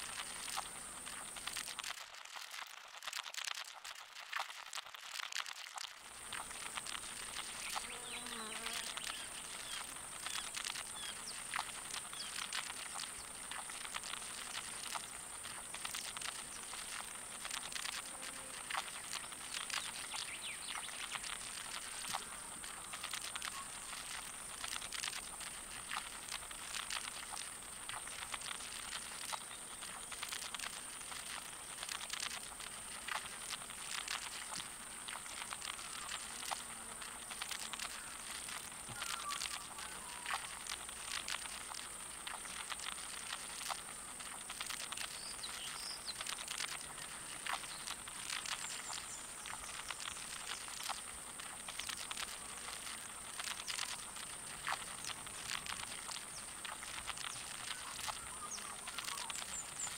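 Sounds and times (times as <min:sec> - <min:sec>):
beetle feet ticking and scratching: 0:00.0 - 0:59.9.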